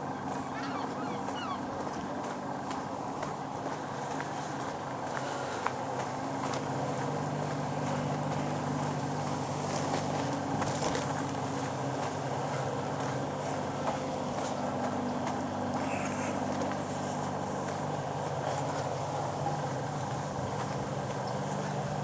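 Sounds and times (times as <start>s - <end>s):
distant motor engine hum: 0.0s - 22.0s
footsteps on dirt path: 0.3s - 17.8s, 18.4s - 21.8s.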